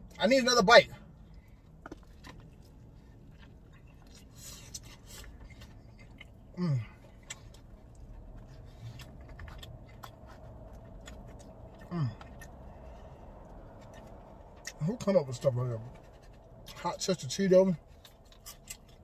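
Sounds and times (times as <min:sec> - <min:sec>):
man chewing: 0:01.2 - 0:14.8, 0:15.9 - 0:16.8, 0:17.9 - 0:19.0.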